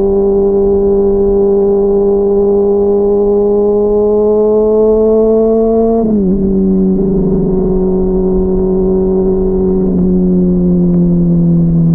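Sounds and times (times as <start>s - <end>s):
muffled motorcycle engine running: 0.0s - 11.9s.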